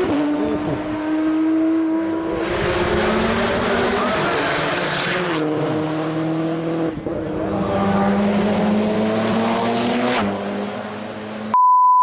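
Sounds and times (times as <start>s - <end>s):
race car engine revving high: 0.0s - 11.6s.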